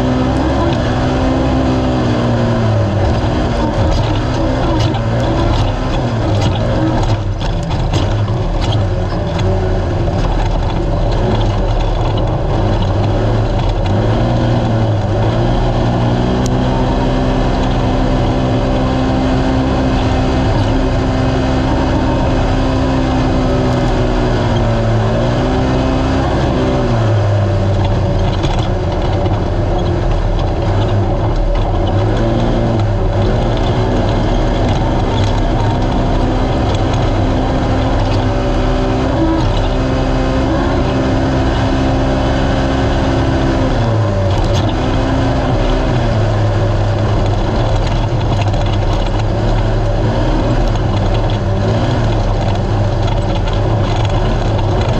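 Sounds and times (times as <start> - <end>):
engine running at high revs: 0.0 - 54.9
knocks and rattles: 2.3 - 54.9.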